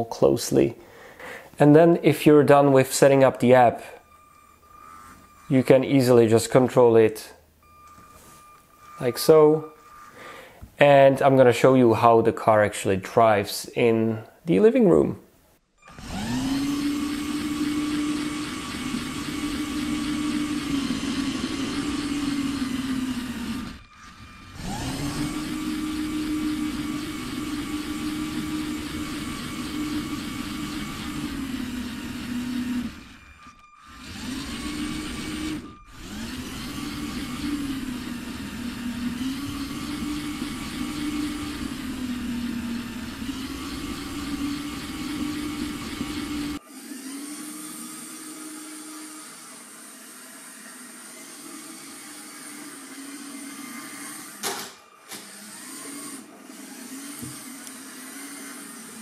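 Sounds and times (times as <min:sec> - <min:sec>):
toy car electric motor whine: 0:04.0 - 0:06.2, 0:07.6 - 0:10.2, 0:15.8 - 0:59.0.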